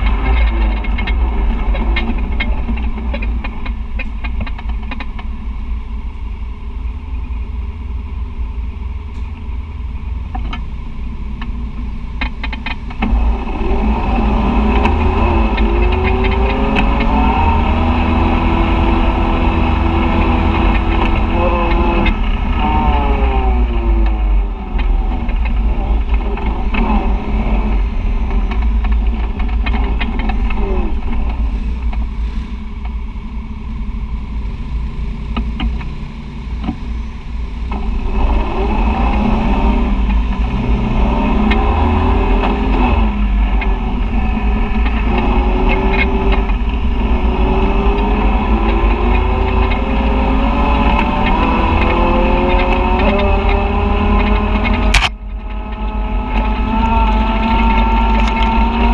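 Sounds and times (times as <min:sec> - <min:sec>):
utility vehicle engine running: 0:00.0 - 0:58.9.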